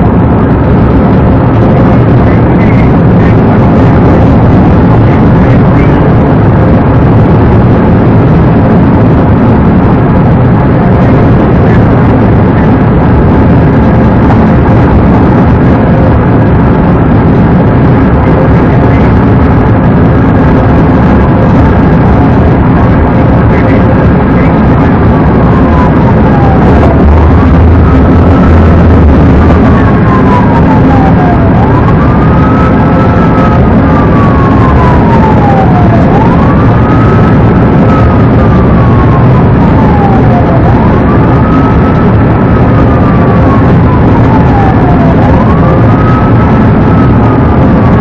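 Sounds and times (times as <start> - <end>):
car engine and road noise: 0.0 - 48.0
siren wail: 0.0 - 48.0.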